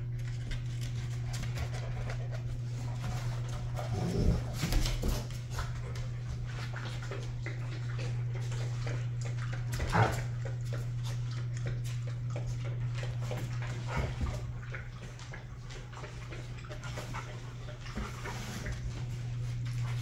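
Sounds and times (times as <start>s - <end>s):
dogs scuffling: 0.0s - 20.0s
steady low hum: 0.0s - 20.0s.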